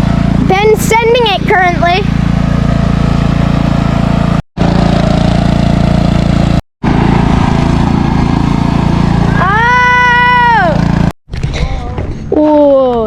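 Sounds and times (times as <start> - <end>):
ride-on lawn mower engine: 0.0 - 11.2.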